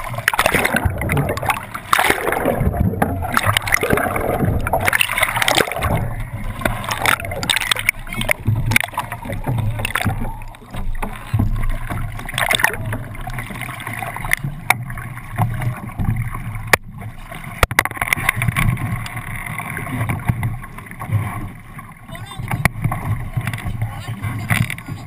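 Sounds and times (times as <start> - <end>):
water rushing along a boat hull: 0.0 - 25.0.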